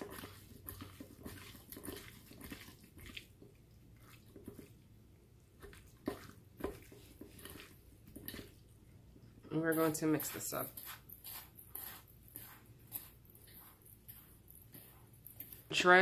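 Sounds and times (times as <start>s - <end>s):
hands squishing food in metal bowl: 0.0s - 16.0s.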